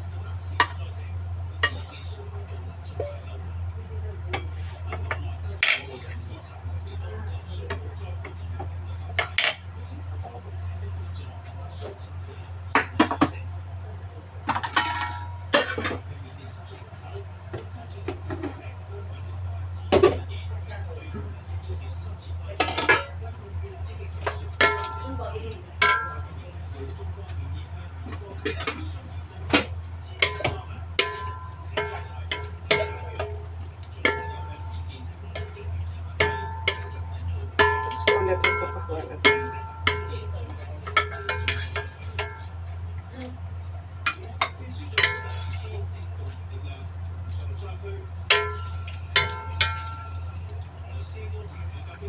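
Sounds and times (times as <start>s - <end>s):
utensils clinking against pan: 0.0s - 13.4s, 14.3s - 52.0s
steady low hum: 0.0s - 52.0s.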